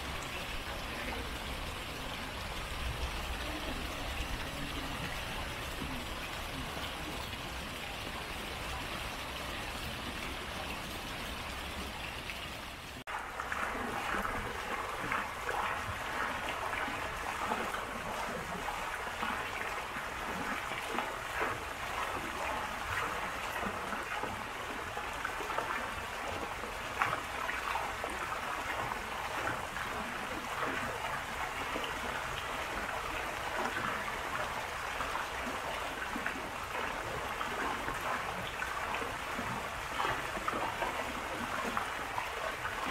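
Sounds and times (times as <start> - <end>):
water splashing: 0.0 - 42.9
water trickling: 0.0 - 42.9.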